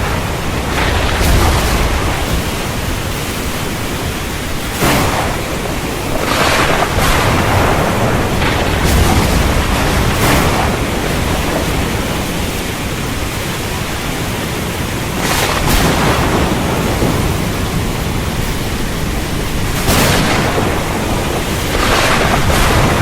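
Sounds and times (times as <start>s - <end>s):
low rumble of thunder: 0.0s - 13.9s, 15.1s - 23.0s
heavy rain falling: 0.0s - 23.0s.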